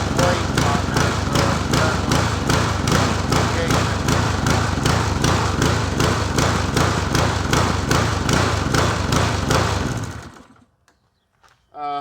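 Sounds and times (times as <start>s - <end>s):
mower engine running: 0.0s - 10.7s.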